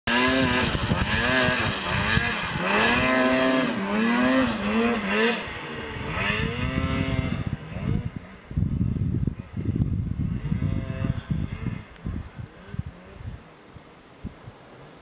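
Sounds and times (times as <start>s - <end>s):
snowmobile engine revving: 0.1s - 13.4s.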